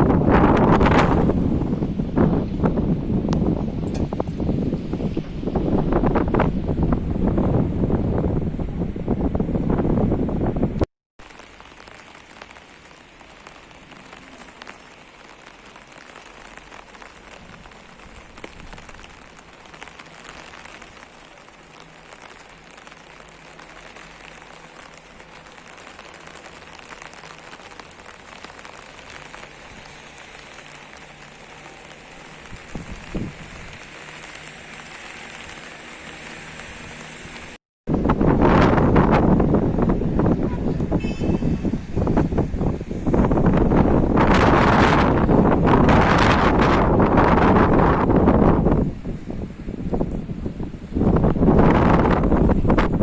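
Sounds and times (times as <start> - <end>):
rain on hard surfaces: 0.0 - 53.0.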